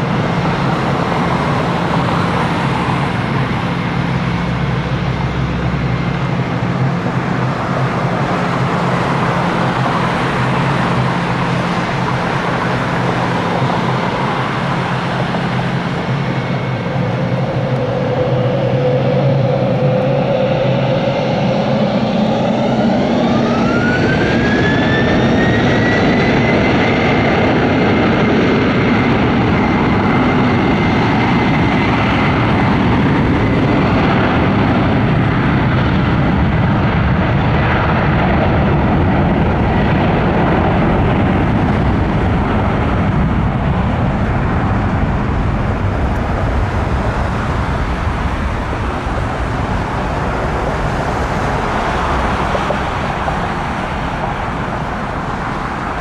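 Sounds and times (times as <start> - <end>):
jet engine whine rising: 0.0 - 56.0
jet engines hissing while taxiing: 0.0 - 56.0.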